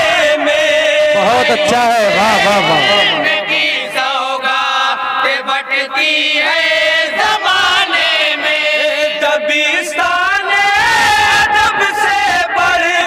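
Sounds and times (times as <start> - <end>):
men singing in chorus: 0.0 - 13.0.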